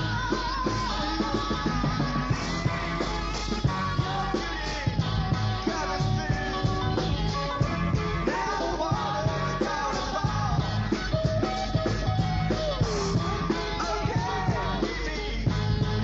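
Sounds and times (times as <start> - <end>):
psychedelic rock band: 0.0 - 16.0.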